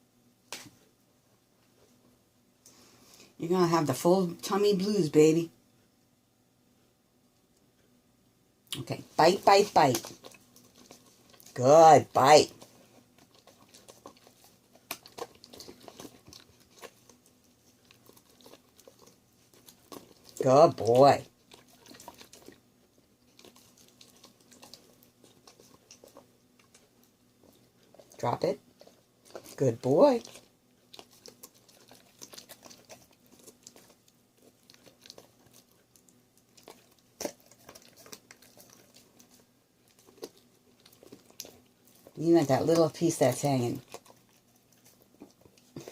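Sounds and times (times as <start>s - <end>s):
dog chewing: 8.8s - 45.9s.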